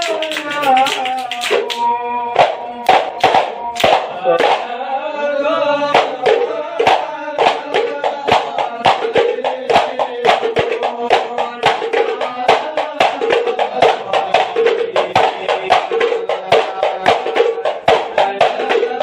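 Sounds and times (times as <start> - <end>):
frame drums: 0.0 - 4.7, 5.9 - 19.0
men singing together: 0.0 - 19.0.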